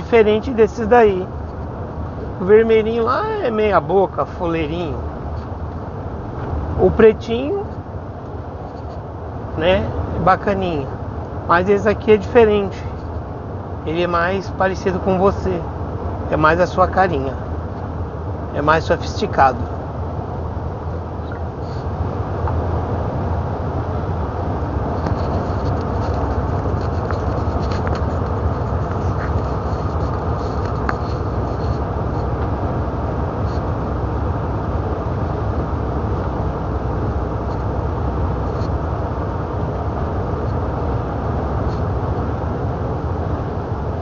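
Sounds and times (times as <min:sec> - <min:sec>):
truck engine and road noise: 0:00.0 - 0:44.0.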